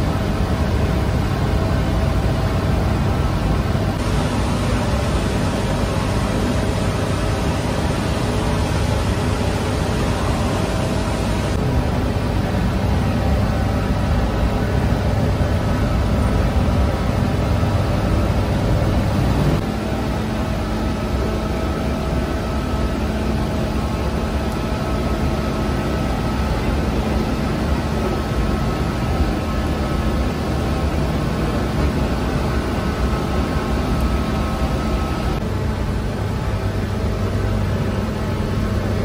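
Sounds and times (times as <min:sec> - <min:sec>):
bakery machine drone: 0:00.0 - 0:39.0.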